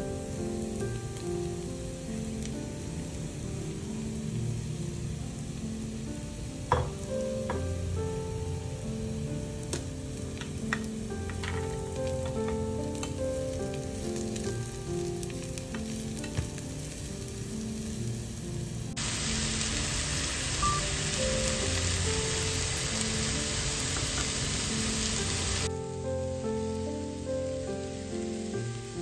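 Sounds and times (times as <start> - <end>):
soft background music: 0.0 - 29.0
vegetables sizzling in a frying pan: 0.0 - 29.0.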